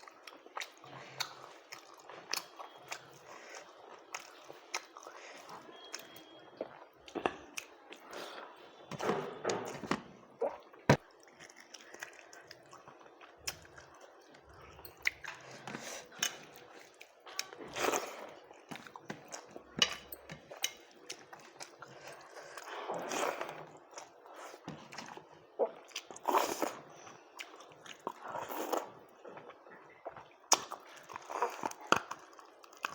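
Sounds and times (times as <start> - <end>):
person chewing with mouth smacks: 0.0 - 8.6, 9.7 - 32.9.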